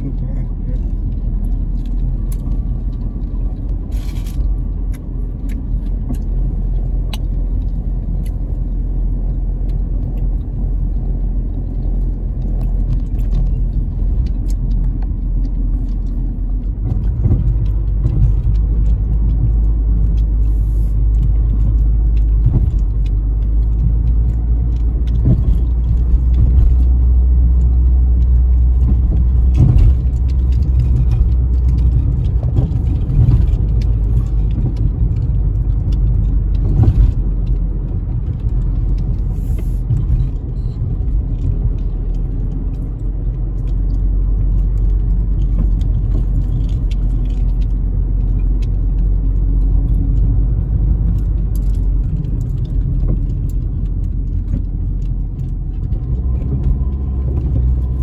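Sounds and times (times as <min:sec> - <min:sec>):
car interior road rumble: 0:00.0 - 0:58.0.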